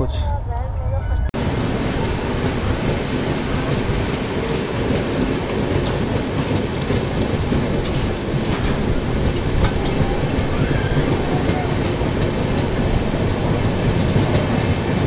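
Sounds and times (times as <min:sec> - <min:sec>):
train rumble: 0:00.0 - 0:15.0
rain and rushing wind: 0:01.3 - 0:15.0
raindrops ticking: 0:01.4 - 0:15.0.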